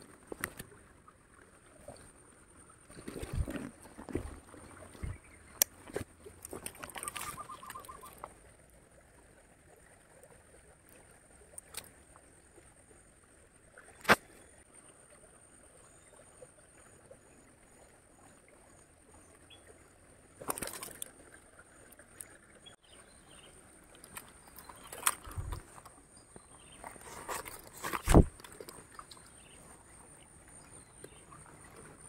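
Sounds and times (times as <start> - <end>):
small stream: 0.0 - 32.0.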